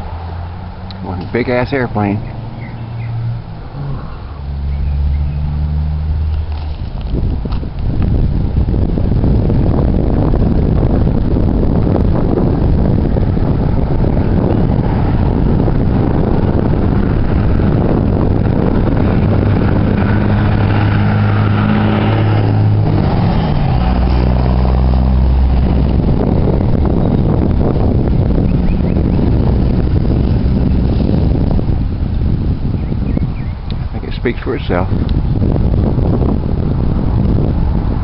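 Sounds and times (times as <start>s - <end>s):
engine passing by: 0.0s - 7.8s, 10.2s - 38.0s
wind buffeting microphone: 0.0s - 38.0s.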